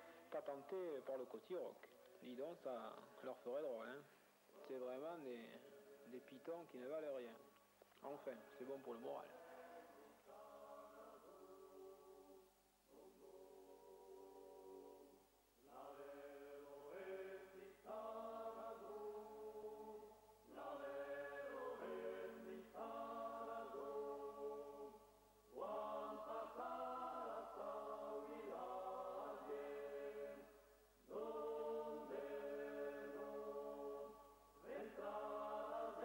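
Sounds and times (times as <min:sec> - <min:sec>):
vocal chant: 0:00.0 - 0:36.0.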